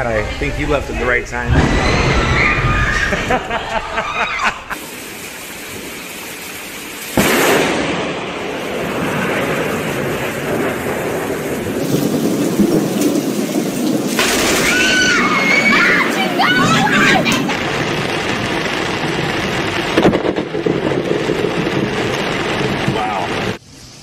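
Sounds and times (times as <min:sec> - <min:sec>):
thunderclap rumbling: 0:00.0 - 0:06.0, 0:07.2 - 0:23.6
steady rain: 0:03.2 - 0:24.0.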